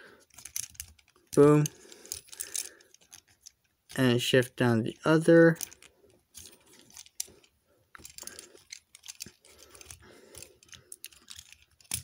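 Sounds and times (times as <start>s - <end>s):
plastic toy rubbing and clicking: 0.2s - 4.2s, 4.9s - 12.0s.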